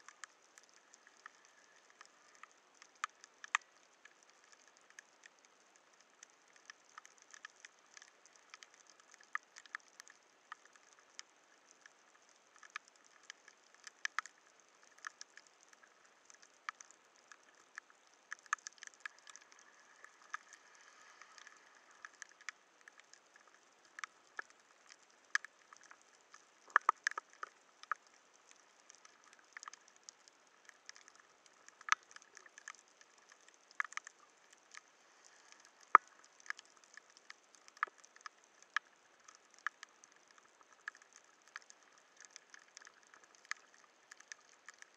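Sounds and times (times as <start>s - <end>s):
steady underwater hiss: 0.0s - 44.9s.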